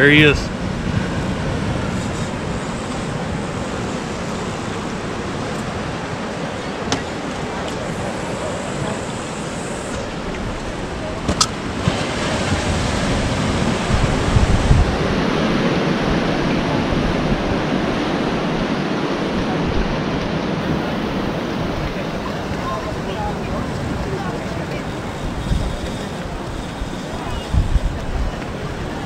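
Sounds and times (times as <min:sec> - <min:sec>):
ocean surf: 0:00.0 - 0:29.0
wind on microphone: 0:00.0 - 0:29.0.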